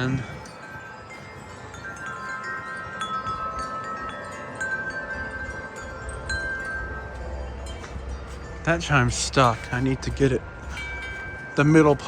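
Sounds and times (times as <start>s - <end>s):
wind chimes ringing: 0.0s - 12.0s
wind rumble on microphone: 0.0s - 12.0s.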